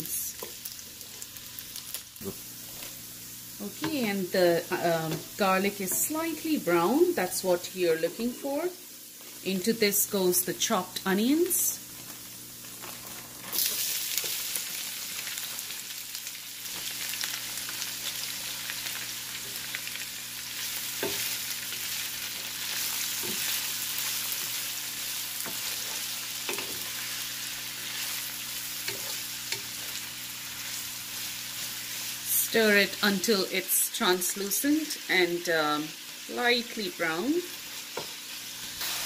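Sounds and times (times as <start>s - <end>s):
onions sizzling in hot oil: 0.0s - 39.0s.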